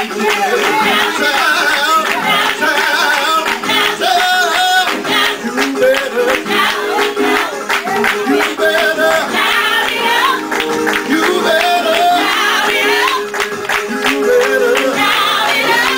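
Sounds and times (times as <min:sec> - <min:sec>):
voices singing worship music: 0:00.0 - 0:15.9.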